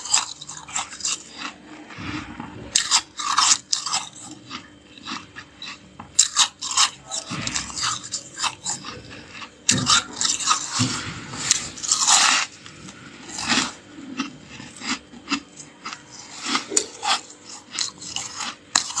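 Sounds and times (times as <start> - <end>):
frost crunching when chewed: 0.0 - 19.0.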